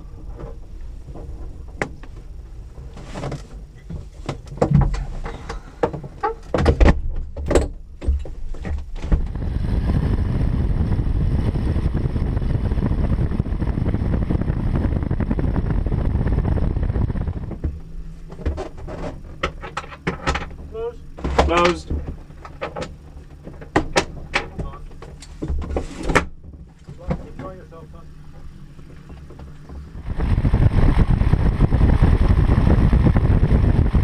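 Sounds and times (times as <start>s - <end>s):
plane engine and propeller rushing: 0.0s - 34.0s.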